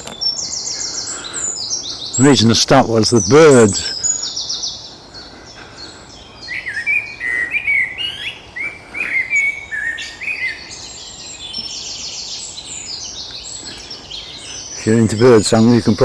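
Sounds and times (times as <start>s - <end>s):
bird song with swooping notes: 0.0s - 16.0s
high rapid bird trills: 0.0s - 16.0s.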